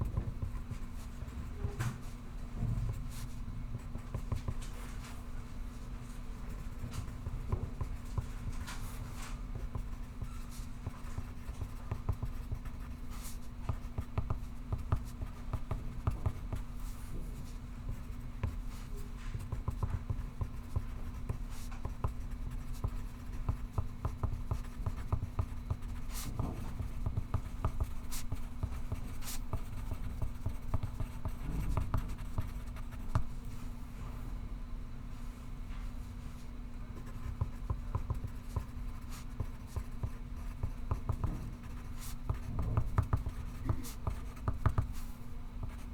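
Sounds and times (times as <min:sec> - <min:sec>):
steady low hum: 0:00.0 - 0:45.9
pencil writing on paper: 0:02.8 - 0:04.8, 0:06.5 - 0:33.3, 0:37.0 - 0:45.9.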